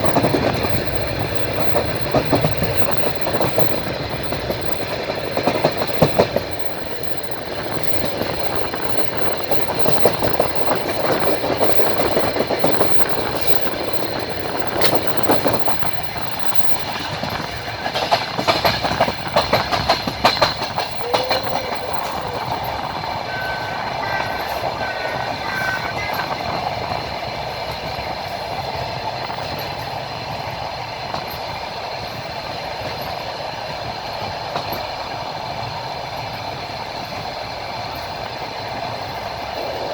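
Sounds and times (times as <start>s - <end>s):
train wheels rolling: 0.0s - 39.9s
wheels clacking over rail joints: 0.0s - 39.9s.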